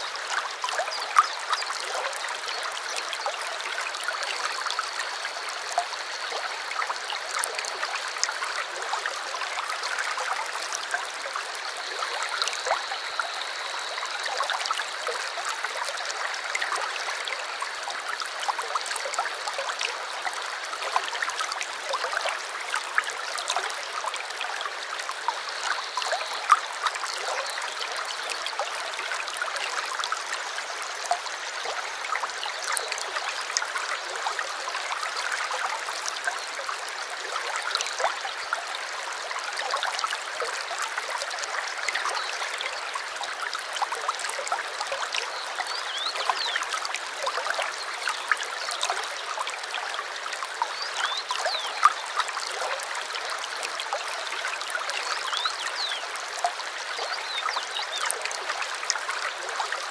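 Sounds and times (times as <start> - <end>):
stream rushing with splashes: 0.0 - 59.9.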